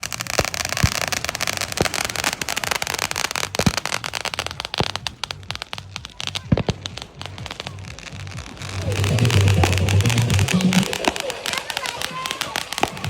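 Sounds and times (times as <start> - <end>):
fireworks booms: 0.0 - 13.0
fireworks crackling: 0.0 - 13.0.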